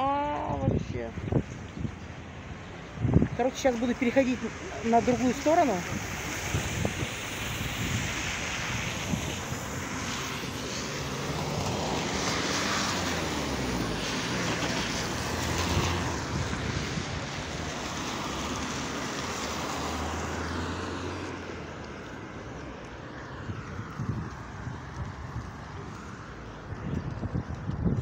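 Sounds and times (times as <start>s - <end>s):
cars passing on wet asphalt: 0.0s - 28.0s.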